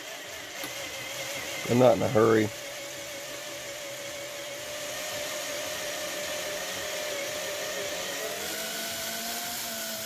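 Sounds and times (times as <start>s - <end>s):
power drill boring through wood: 0.0s - 10.0s.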